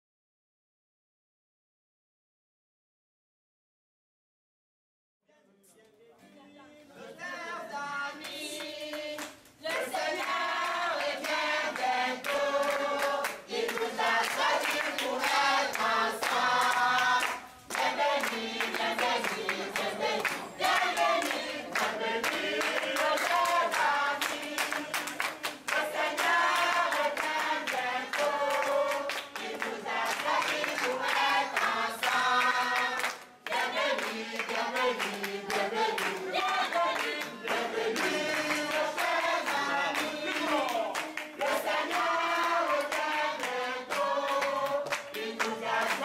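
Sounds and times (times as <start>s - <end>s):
group of voices singing: 6.5s - 46.0s
hand clapping: 8.2s - 46.0s.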